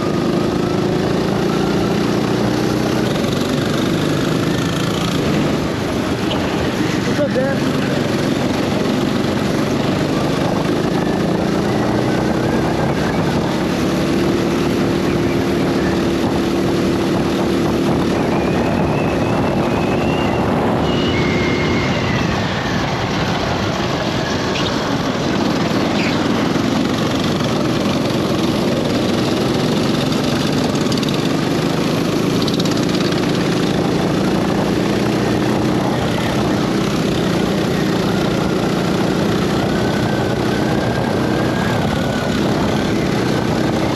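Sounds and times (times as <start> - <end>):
go-kart engine running hard: 0.0 - 43.9.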